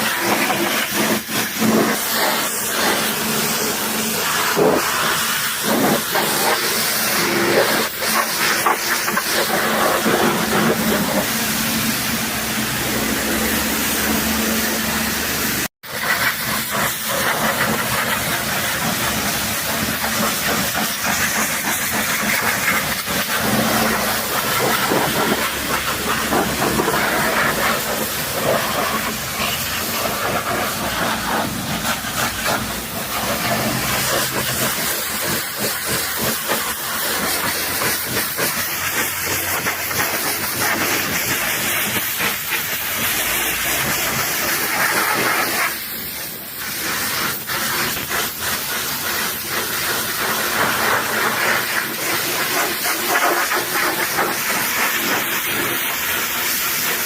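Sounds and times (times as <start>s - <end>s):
pressure washer jet spraying water: 0.0s - 57.0s.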